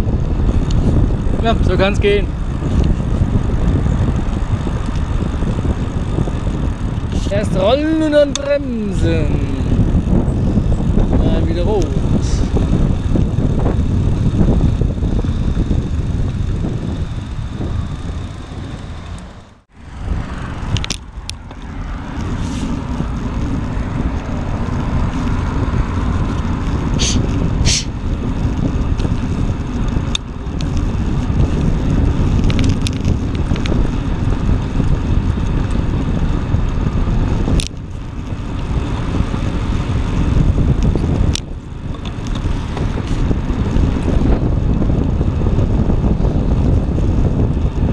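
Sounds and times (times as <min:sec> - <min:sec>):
bike clicks and rattles: 0:00.0 - 0:47.9
road traffic: 0:00.0 - 0:47.9
wind buffeting microphone: 0:00.0 - 0:47.9.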